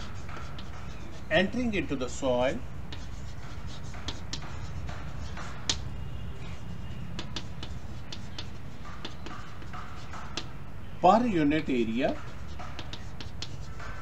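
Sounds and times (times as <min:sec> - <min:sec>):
chalk tapping on chalkboard: 0:00.0 - 0:02.1, 0:02.9 - 0:05.9, 0:06.5 - 0:10.6, 0:11.6 - 0:14.0.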